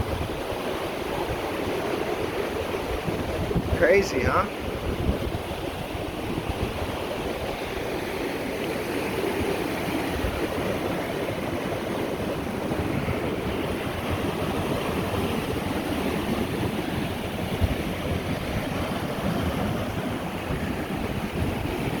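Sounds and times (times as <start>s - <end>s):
waves washing onto beach: 0.0s - 22.0s
wind rumbling on microphone: 0.0s - 22.0s.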